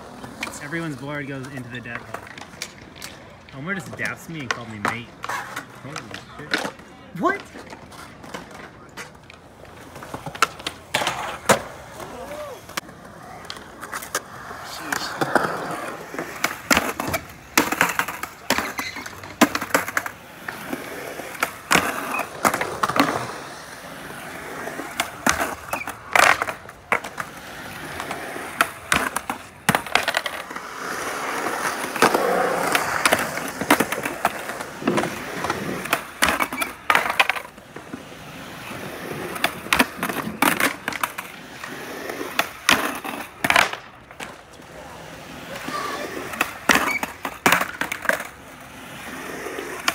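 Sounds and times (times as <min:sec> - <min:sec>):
skateboard wheels rolling: 0:00.0 - 0:49.9
skateboards clacking on concrete: 0:00.0 - 0:49.9.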